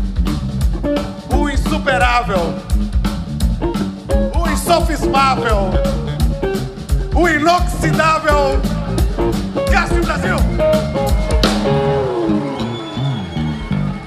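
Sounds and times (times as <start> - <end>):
rock band playing: 0.0 - 14.0
bending electric guitar lead: 0.3 - 14.0.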